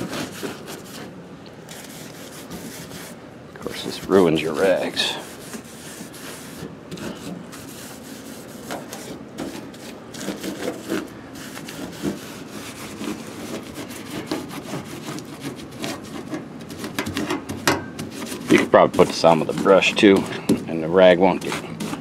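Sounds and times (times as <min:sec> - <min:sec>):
rag rubbing on sheet metal: 0:00.0 - 0:22.0.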